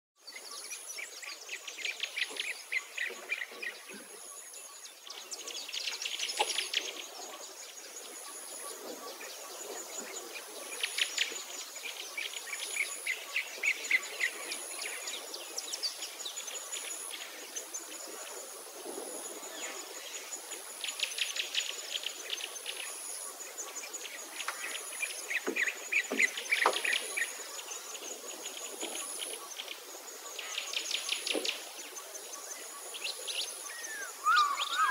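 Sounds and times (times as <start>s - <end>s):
songbirds trilling: 0.2s - 34.9s.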